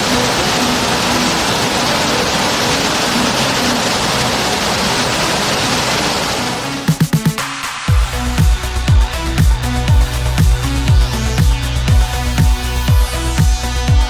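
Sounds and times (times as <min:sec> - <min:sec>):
rushing water: 0:00.0 - 0:13.6
faint background music: 0:00.0 - 0:14.0.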